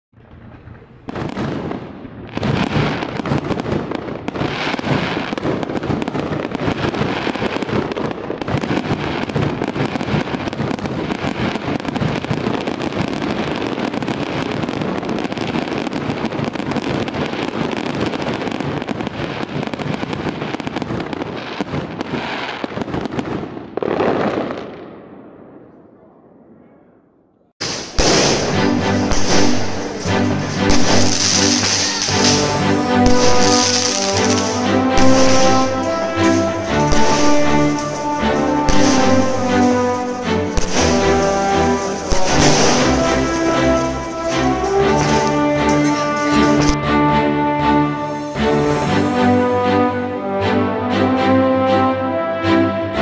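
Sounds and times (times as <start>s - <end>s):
fireworks bangs and crackling: 0.1s - 26.6s, 27.6s - 50.4s.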